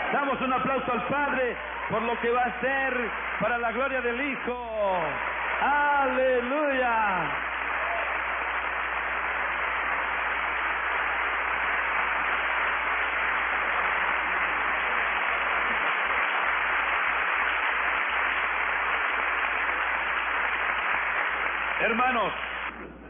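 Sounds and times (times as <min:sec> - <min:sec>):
congregation clapping: 0:00.0 - 0:23.0.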